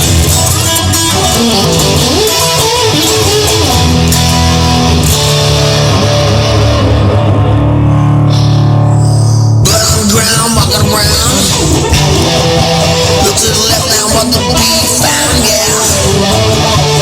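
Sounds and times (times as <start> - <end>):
instrumental rock music: 0.0 - 17.0.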